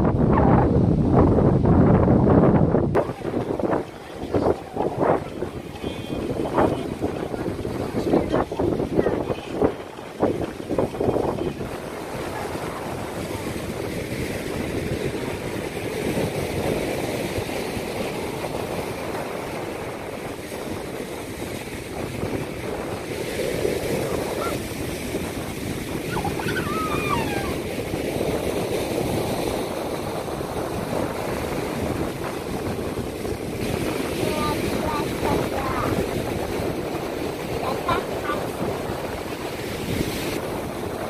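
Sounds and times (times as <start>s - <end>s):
sea surf rushing: 0.0s - 41.0s
wind buffeting microphone: 0.0s - 41.0s.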